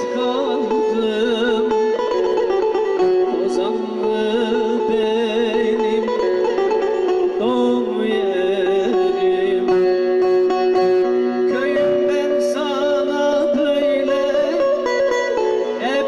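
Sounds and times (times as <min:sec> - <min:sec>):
man singing: 0:00.0 - 0:16.0
plucked long-necked lute: 0:00.0 - 0:16.0.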